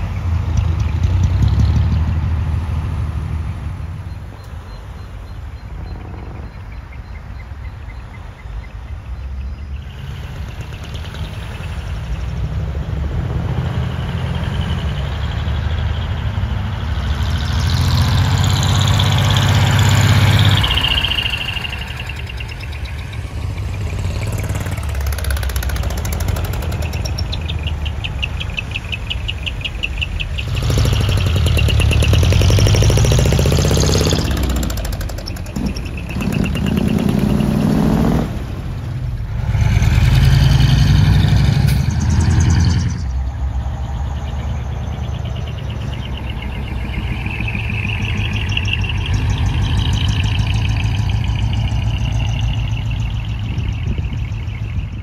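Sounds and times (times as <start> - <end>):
diesel trucks driving past: 0.0 - 55.0.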